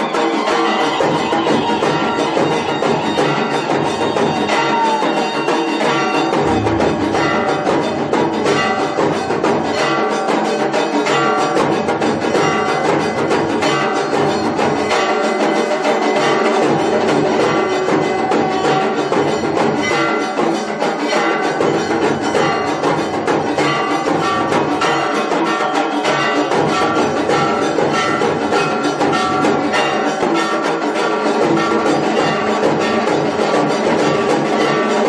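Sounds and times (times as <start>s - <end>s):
rhythmic percussion: 0.0s - 35.0s
ringing bells: 0.0s - 35.0s
clanging metal: 5.4s - 35.0s.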